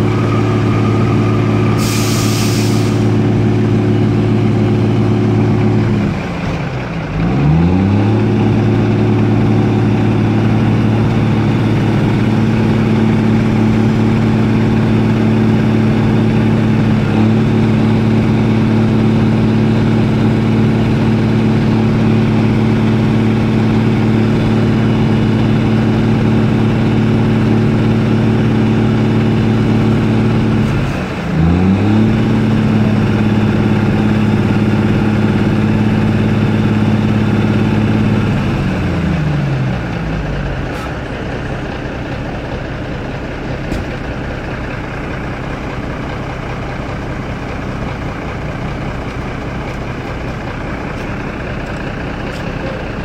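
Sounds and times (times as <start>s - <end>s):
diesel truck engine running: 0.0s - 53.0s
engine idling rumble: 0.0s - 53.0s.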